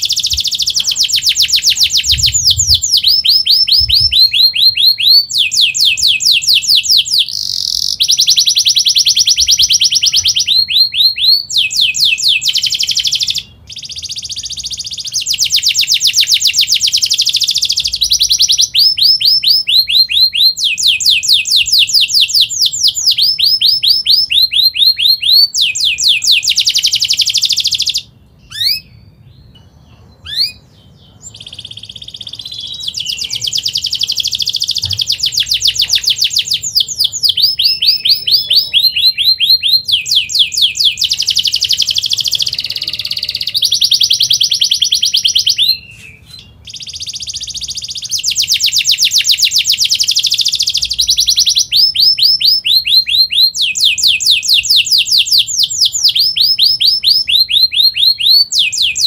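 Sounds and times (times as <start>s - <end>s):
bird chirps: 0.0s - 59.0s
canary singing rapid trills: 0.0s - 59.0s.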